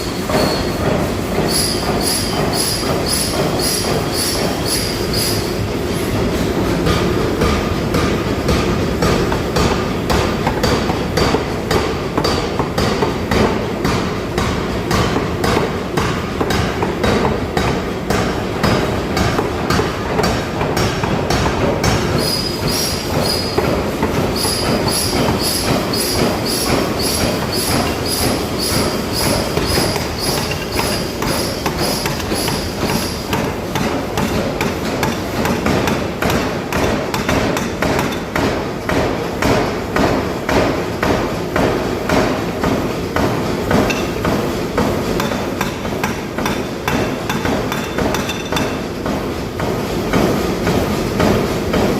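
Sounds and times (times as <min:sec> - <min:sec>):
forging hammer striking metal: 0:06.8 - 0:48.9.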